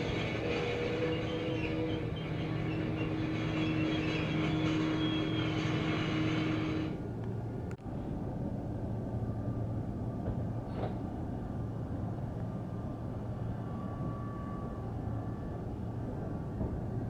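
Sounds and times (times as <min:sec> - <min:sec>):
diesel locomotive engine humming: 0:00.0 - 0:17.0.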